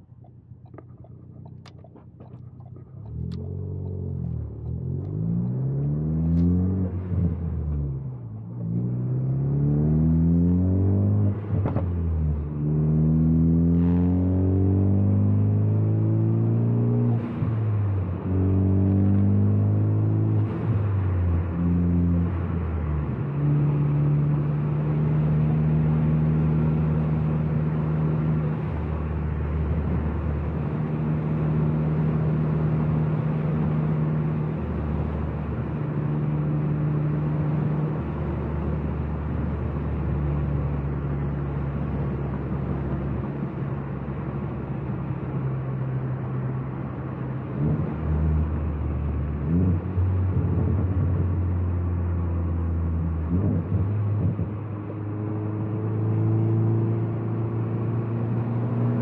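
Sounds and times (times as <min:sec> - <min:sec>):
car engine through gear changes: 0:00.0 - 0:59.0.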